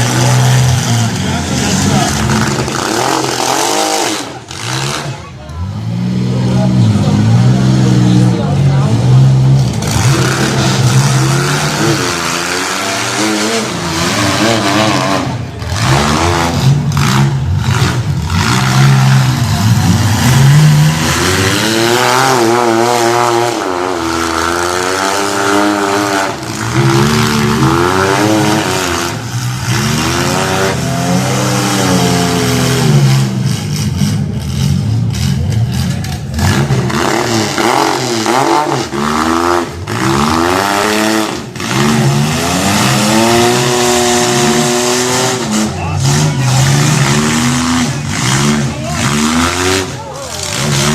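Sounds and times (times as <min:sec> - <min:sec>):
car engines revving hard: 0:00.0 - 0:50.9.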